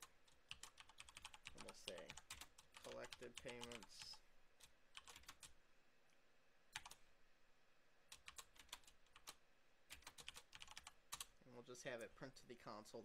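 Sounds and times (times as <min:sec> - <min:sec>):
faint keyboard typing: 0:00.0 - 0:07.1, 0:08.1 - 0:12.2.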